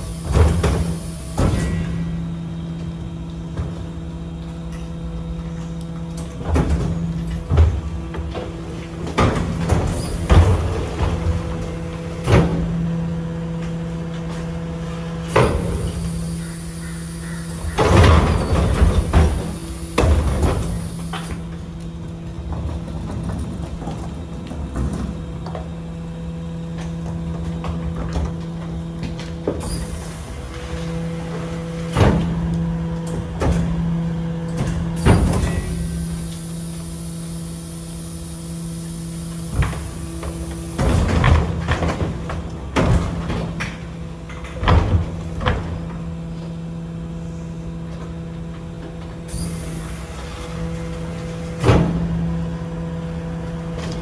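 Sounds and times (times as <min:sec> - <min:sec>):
hydraulic lifter humming: 0:00.0 - 0:54.0.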